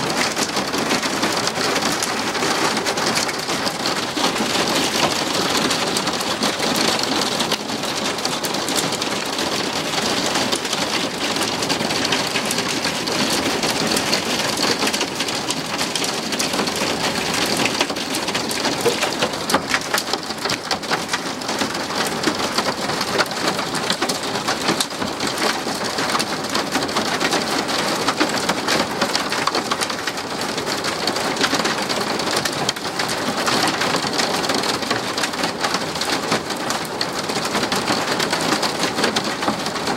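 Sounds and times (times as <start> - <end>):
hailstones pelting down: 0.0 - 39.9.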